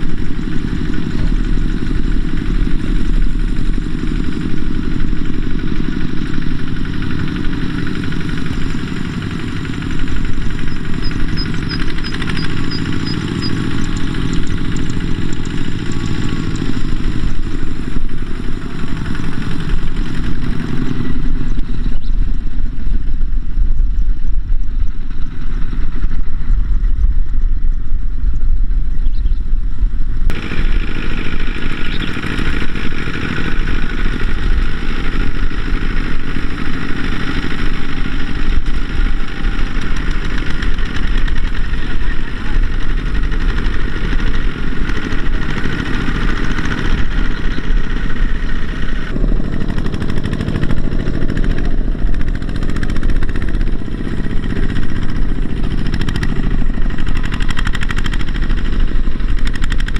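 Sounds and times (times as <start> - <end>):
diesel engines clattering: 0.0 - 23.0, 30.2 - 59.9.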